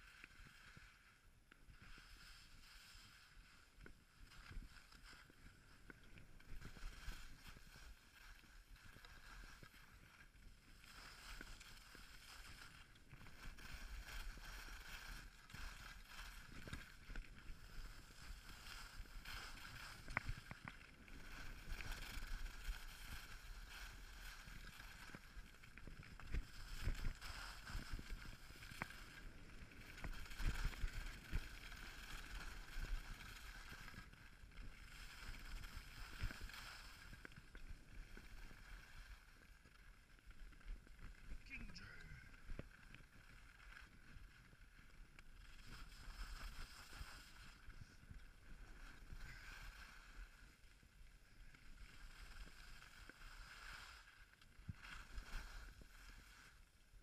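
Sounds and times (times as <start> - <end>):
skis scraping over snow: 0.0 - 57.0.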